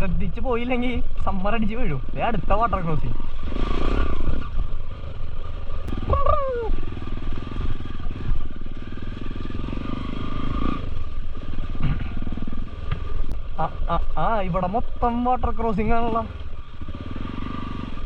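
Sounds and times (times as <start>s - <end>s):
motorcycle engine under throttle: 0.0s - 18.0s.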